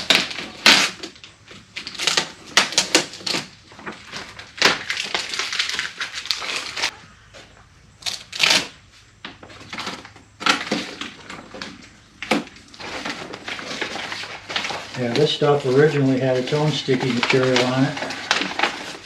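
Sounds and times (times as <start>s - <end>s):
packing tape peeling: 0.0s - 6.9s, 8.0s - 8.8s, 9.8s - 19.0s
plastic lining crinkling: 0.0s - 7.0s, 8.0s - 19.0s.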